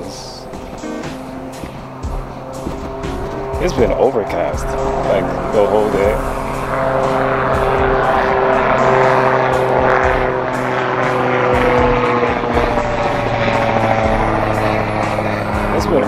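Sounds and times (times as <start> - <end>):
aircraft engine drone: 0.0 - 16.0
wind buffeting microphone: 0.0 - 16.0.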